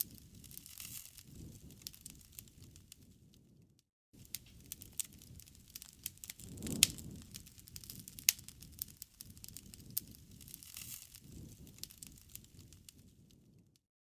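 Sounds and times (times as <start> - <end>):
campfire flames rumbling: 0.0 - 3.2, 4.2 - 13.8
fire crackling and popping: 0.0 - 3.6, 4.2 - 13.8.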